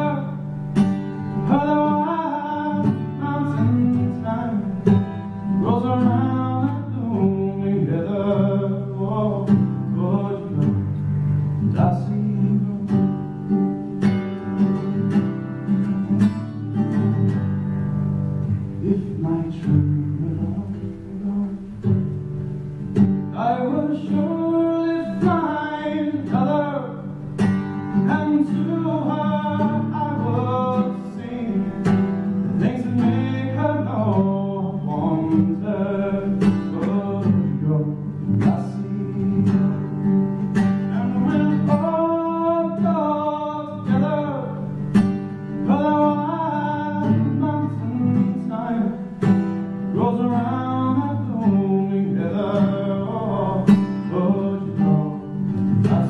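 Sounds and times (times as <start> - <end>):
man singing: 0.0 - 13.6, 18.6 - 22.0, 23.2 - 56.0
acoustic guitar plucking: 0.0 - 56.0.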